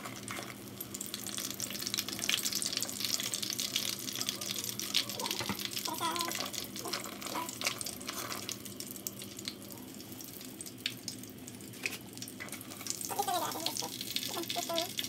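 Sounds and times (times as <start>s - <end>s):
hot oil sizzling and popping: 0.0s - 15.0s.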